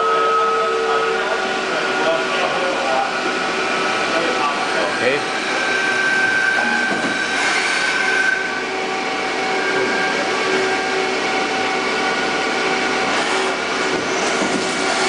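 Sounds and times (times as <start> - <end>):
steady whining tones: 0.0 - 14.0
lathe machine hum: 0.0 - 15.0.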